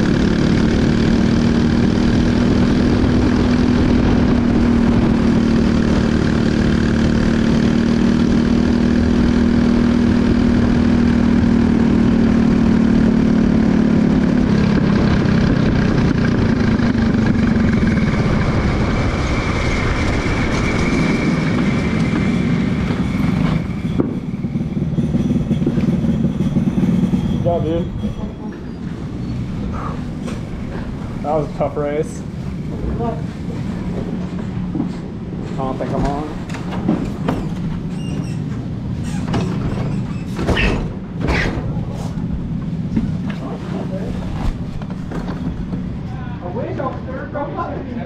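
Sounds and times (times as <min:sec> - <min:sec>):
kart engine running: 0:00.0 - 0:47.5.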